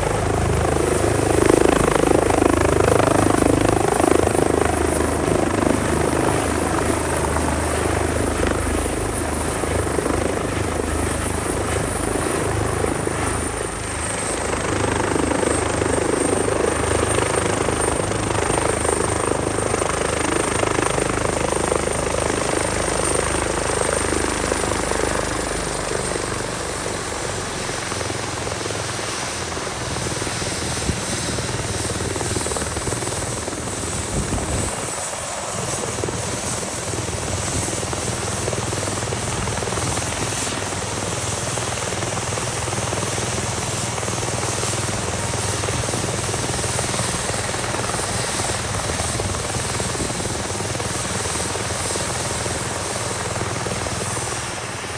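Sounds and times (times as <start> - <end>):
helicopter turbine and rotor noise: 0.0 - 54.9.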